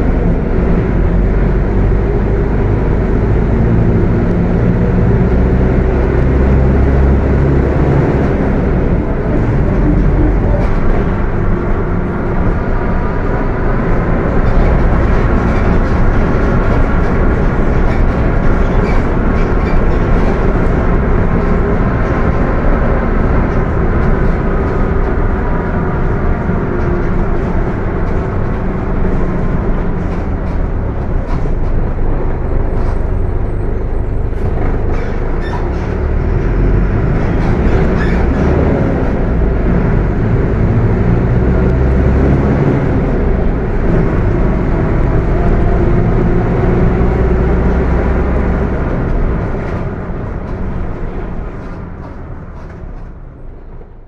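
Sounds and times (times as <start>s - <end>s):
bus engine noise: 0.0s - 54.0s
bus transmission whining: 0.0s - 54.0s.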